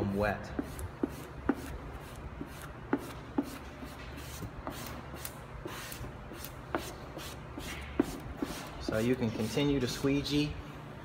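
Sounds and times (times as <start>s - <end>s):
squeegee rubbing over tape: 0.5s - 9.7s.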